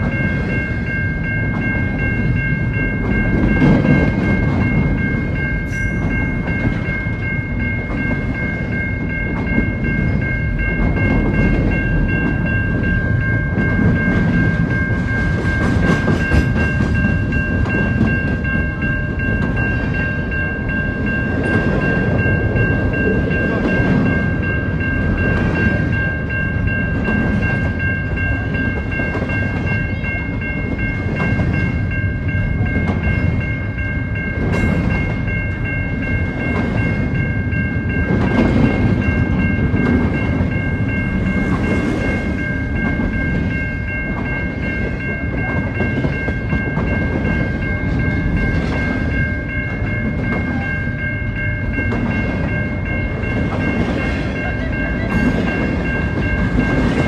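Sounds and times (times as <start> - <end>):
freight train wheels rumbling: 0.0 - 57.0
high-pitched ringing tone: 0.0 - 57.0.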